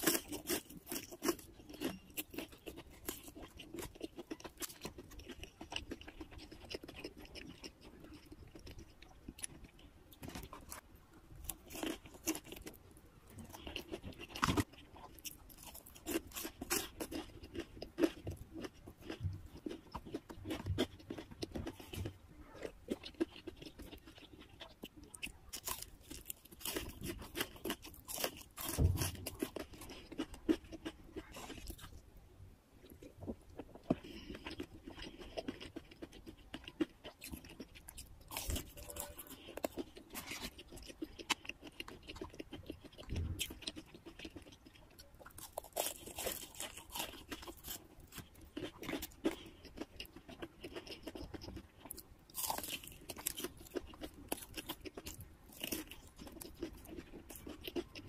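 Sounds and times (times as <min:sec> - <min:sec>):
chewing and crunching fried chicken: 0:00.0 - 0:58.0.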